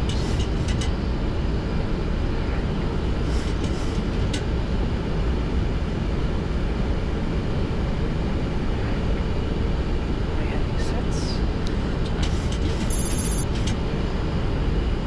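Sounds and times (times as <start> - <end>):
aircraft cockpit engine rumble: 0.0 - 15.0.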